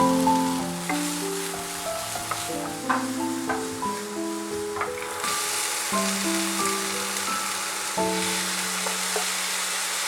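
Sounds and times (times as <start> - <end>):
food sizzling in a pan: 0.0 - 10.0
gentle background music: 0.0 - 10.0.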